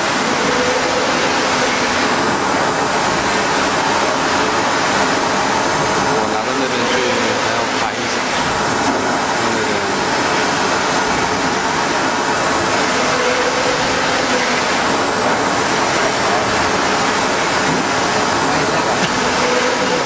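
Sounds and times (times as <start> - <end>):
printer running: 0.0 - 20.0.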